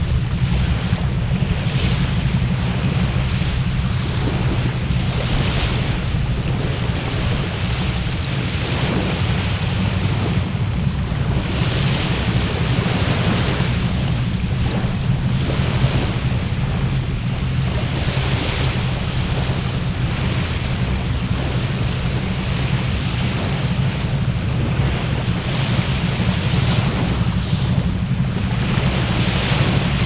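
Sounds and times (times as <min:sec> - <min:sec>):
high-pitched whine: 0:00.0 - 0:30.0
wind buffeting microphone: 0:00.0 - 0:30.0.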